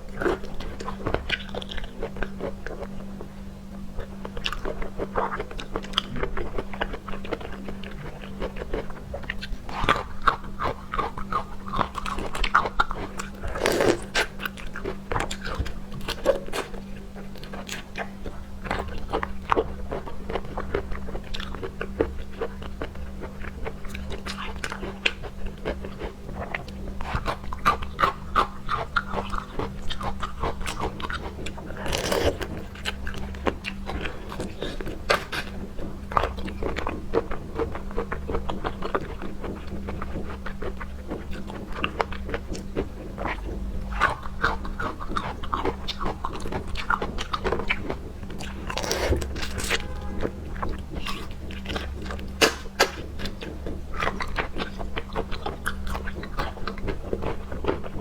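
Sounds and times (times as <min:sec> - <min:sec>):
wet chewing and lip-smacking: 0:00.0 - 0:03.4, 0:04.0 - 0:58.0
steady low hum: 0:00.0 - 0:58.0.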